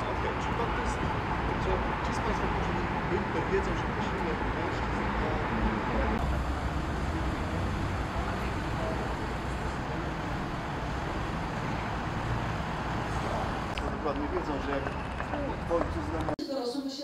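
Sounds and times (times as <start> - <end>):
urban traffic rumble: 0.0 - 16.4.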